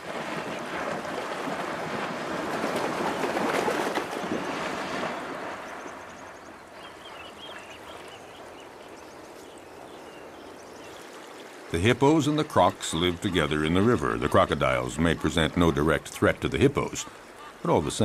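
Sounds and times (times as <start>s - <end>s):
hippos splashing through water: 0.0s - 18.0s.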